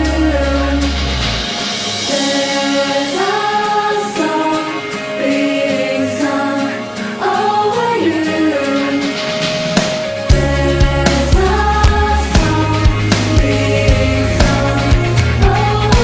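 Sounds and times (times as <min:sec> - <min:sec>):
song with sung vocals: 0:00.0 - 0:16.0.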